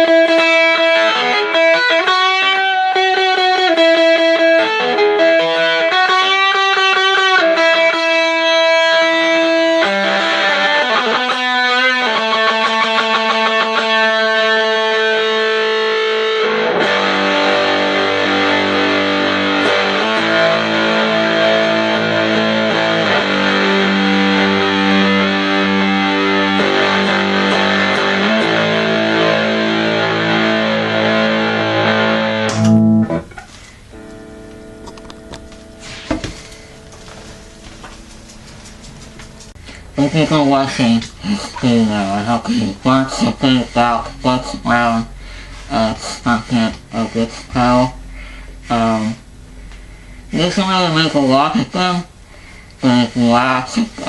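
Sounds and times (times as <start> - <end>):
fuzz electric guitar: 0.0 - 51.8.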